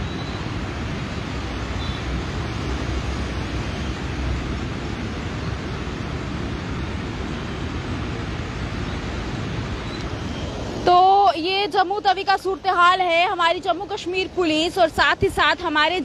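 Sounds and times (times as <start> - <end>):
river rushing in flood: 0.0 - 16.0.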